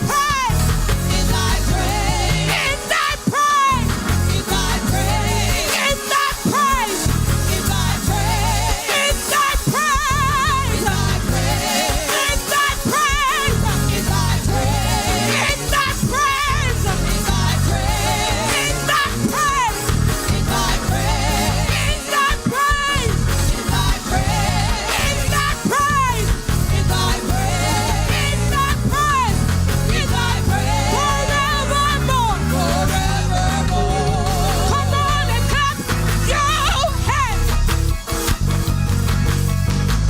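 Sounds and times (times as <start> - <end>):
bass line: 0.0 - 3.0, 3.7 - 5.7, 6.7 - 8.8, 10.0 - 12.1, 13.1 - 22.1, 22.8 - 40.0
gospel band playing a hymn: 0.0 - 40.0.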